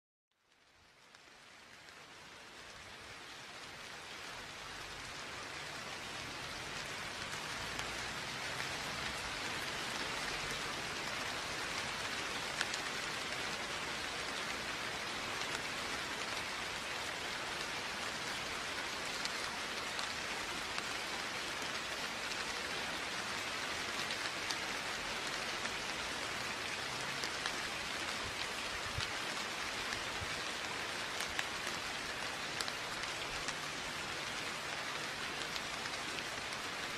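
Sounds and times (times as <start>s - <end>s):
steady rain falling: 0.3s - 36.9s
raindrop ticks: 0.4s - 2.9s, 5.0s - 36.9s.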